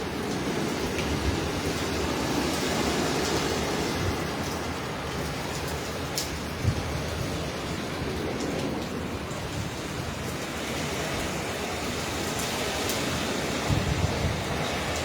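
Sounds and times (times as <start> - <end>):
heavy rain and wind: 0.0 - 15.0.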